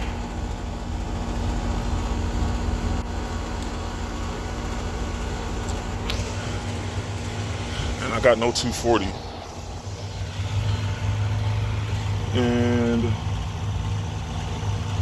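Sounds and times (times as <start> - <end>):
low rumble: 0.0 - 12.5
low machine hum: 0.0 - 15.0.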